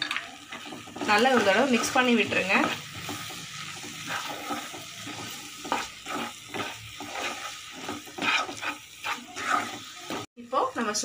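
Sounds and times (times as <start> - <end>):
paste frying: 0.0 - 11.0
spatula scraping a pan: 0.4 - 10.3.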